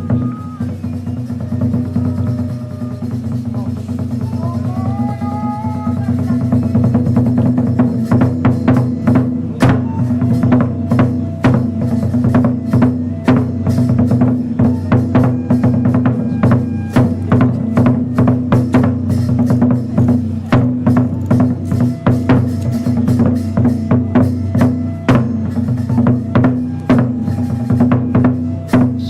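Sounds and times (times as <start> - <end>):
drums beaten quickly: 0.0 - 29.0.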